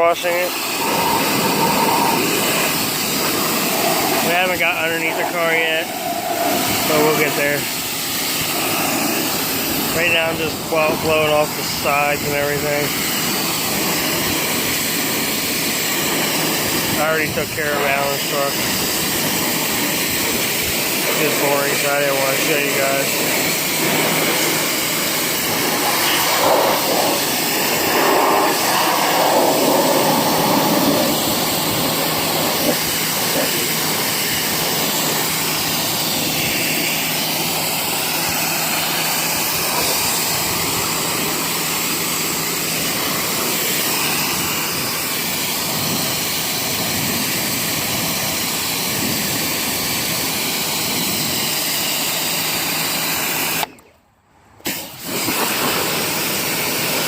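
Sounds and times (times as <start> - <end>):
pressure washer spraying: 0.0 - 53.8, 54.6 - 57.0.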